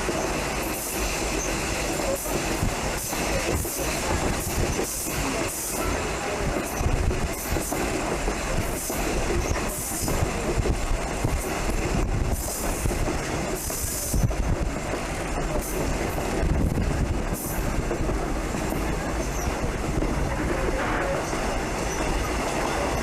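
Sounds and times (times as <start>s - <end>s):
train rumbling with wheels clattering: 0.0s - 23.0s.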